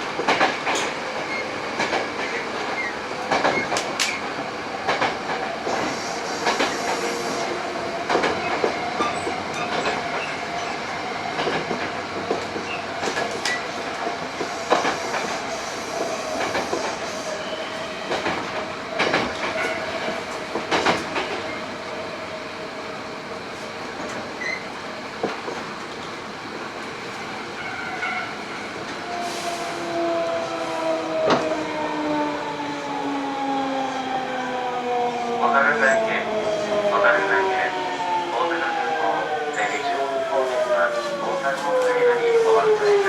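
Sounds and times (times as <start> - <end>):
train rolling noise: 0.0 - 43.0.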